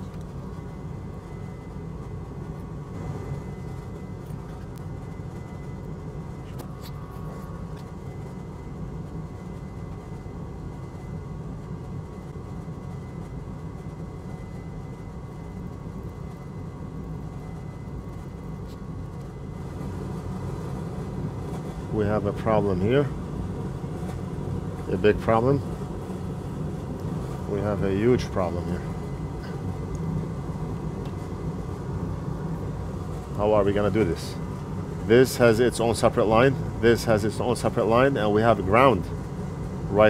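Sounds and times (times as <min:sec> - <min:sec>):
faint high whine: 0:00.0 - 0:40.0
low fan hum: 0:00.0 - 0:40.0.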